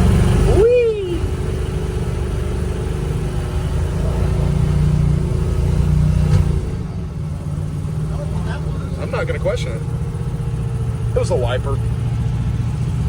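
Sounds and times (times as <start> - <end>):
engine drone from inside cab: 0.0 - 13.0.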